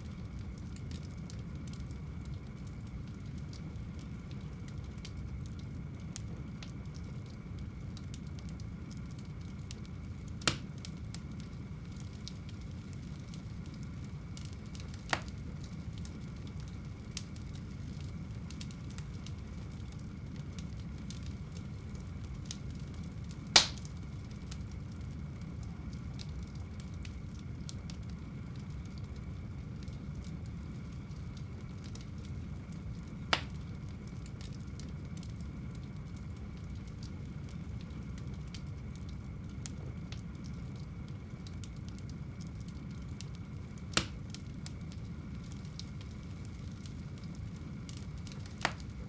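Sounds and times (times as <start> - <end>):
fire crackling: 0.0 - 49.0
fire rumbling in fireplace: 0.0 - 49.0
loud fire pops: 0.0 - 49.0.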